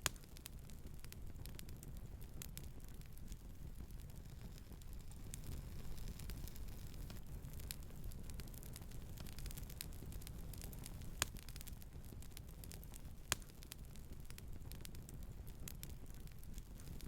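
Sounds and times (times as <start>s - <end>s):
campfire crackling: 0.0s - 17.0s
sharp fire pops: 0.0s - 17.0s.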